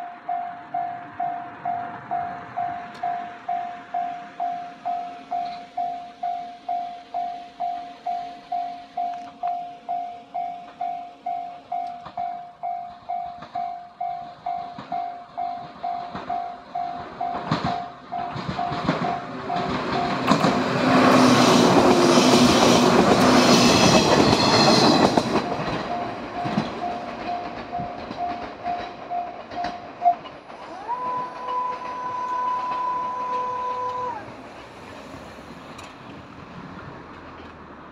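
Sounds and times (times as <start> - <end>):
level crossing warning bell: 0.0 - 34.1
train wheels clattering over rails: 1.0 - 37.9.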